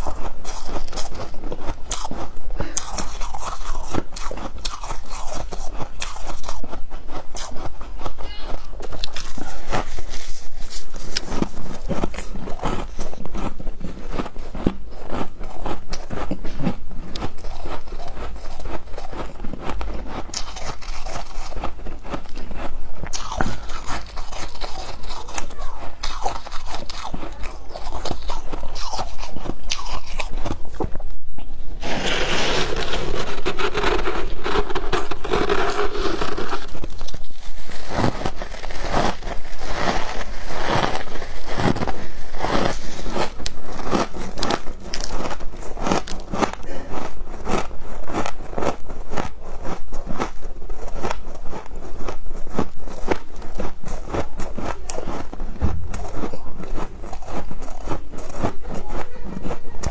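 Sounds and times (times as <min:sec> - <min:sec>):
person chewing crunchy ice: 0:00.0 - 0:31.2, 0:31.8 - 0:59.9.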